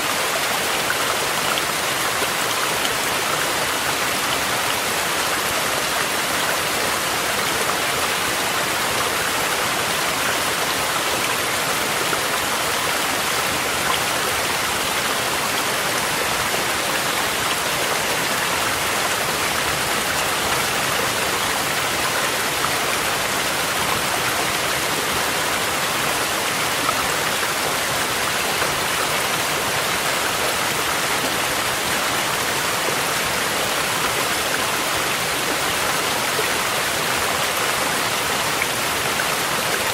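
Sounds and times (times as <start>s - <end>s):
steady rain: 0.0s - 39.9s
stream rushing over rocks: 0.0s - 39.9s.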